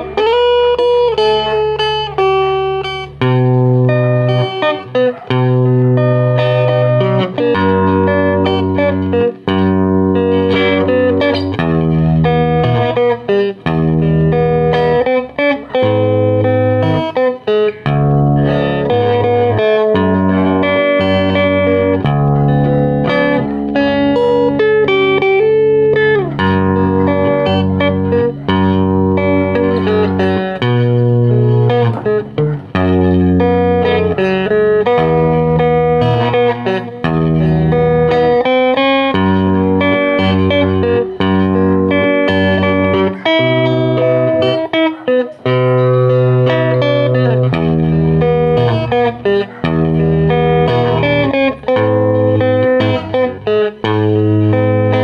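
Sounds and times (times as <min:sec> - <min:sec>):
electric guitar melody: 0:00.0 - 0:55.0.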